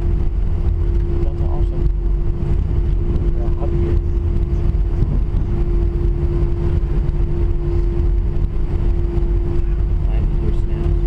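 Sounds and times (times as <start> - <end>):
jet engine cabin hum: 0.0 - 11.0.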